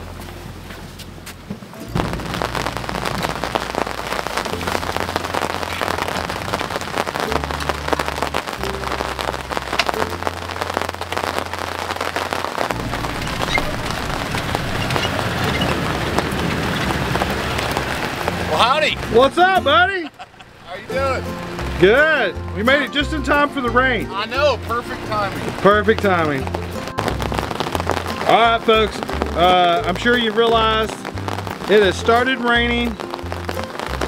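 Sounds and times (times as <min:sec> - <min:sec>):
rain falling steadily: 0:00.0 - 0:34.0.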